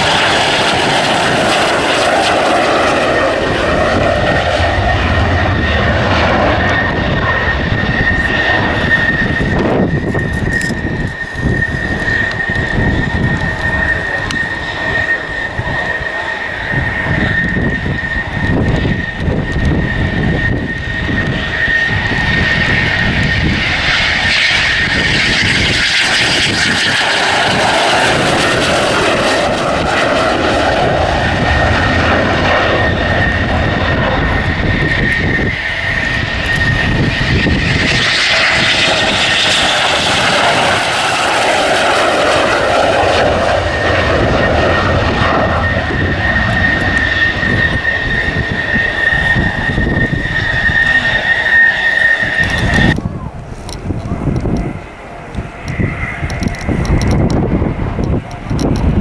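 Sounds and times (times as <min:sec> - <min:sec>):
jet engine whine and roar: 0:00.0 - 0:59.0.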